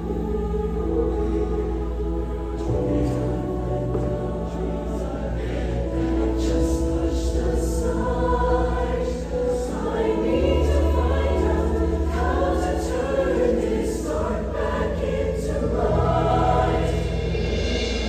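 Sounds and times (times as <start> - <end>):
choir singing in parts: 0.0 - 18.0.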